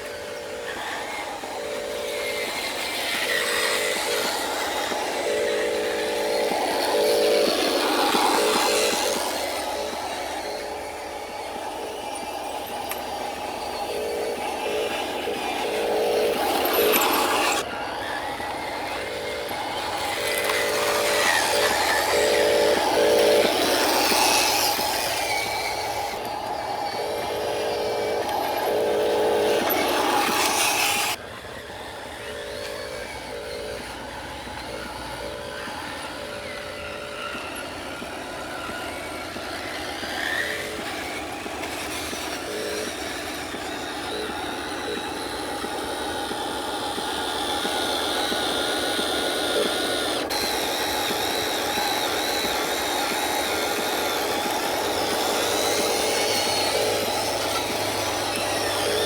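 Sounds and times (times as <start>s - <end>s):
model truck running noise: 0.0s - 59.0s.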